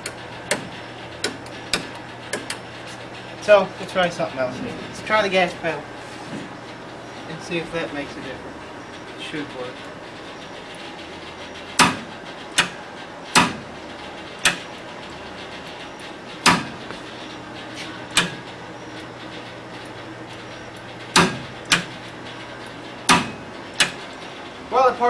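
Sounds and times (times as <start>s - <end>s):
electrical contactors clacking: 0.0s - 25.0s.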